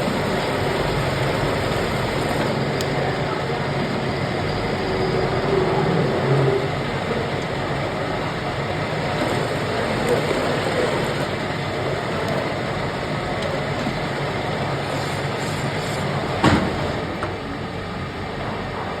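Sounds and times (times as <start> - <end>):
metal lathe machining: 0.0 - 19.0.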